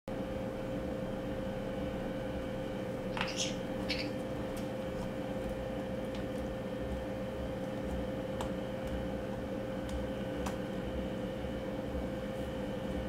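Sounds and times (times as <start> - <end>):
steady background hum: 0.1 - 13.0.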